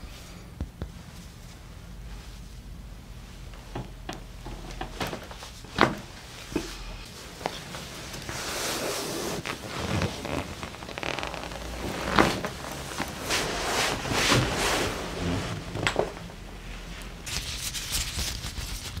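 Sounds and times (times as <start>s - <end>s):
clothing rustling on padded table: 0.9s - 17.3s.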